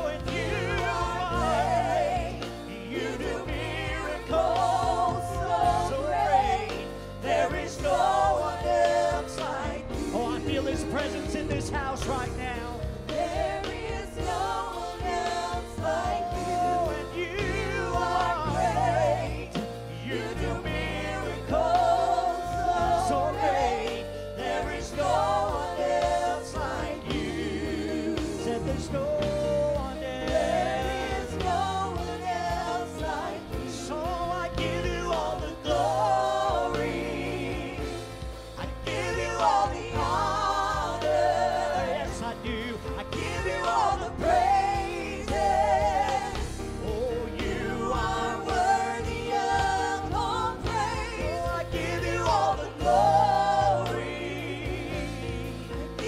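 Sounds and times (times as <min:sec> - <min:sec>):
low bass notes: 0:00.0 - 0:56.0
people singing with vibrato: 0:00.0 - 0:56.0.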